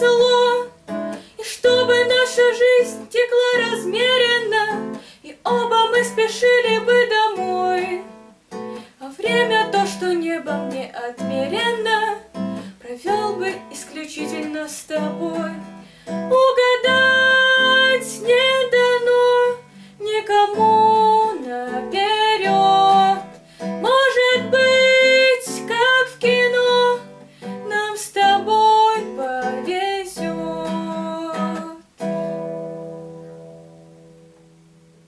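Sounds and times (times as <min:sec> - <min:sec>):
girl singing: 0:00.0 - 0:32.0
strummed classical guitar: 0:00.0 - 0:35.0.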